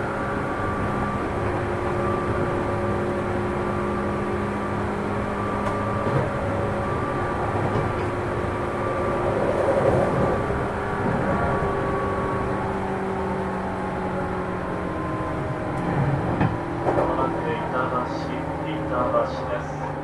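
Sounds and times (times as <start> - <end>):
train motor hum: 0.0 - 20.0
wheels rumbling on rails: 0.0 - 20.0.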